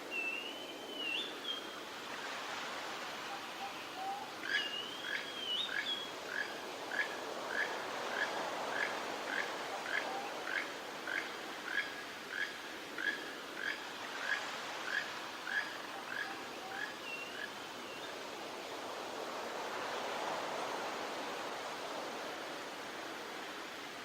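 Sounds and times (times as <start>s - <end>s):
surf washing on shore: 0.0s - 24.0s.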